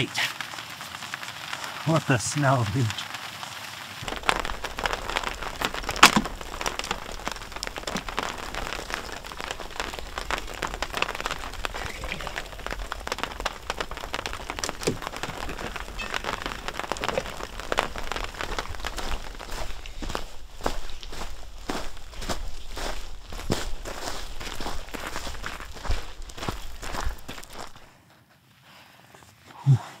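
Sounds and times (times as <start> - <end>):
sharp crack: 0.0 - 27.9
snow pattering: 0.0 - 27.9.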